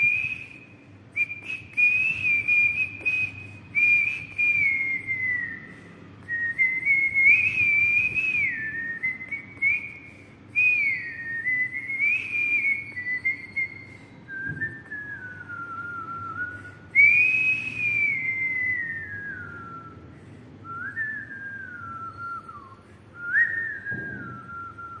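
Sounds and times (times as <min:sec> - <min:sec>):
man whistling a tune: 0:00.0 - 0:25.0.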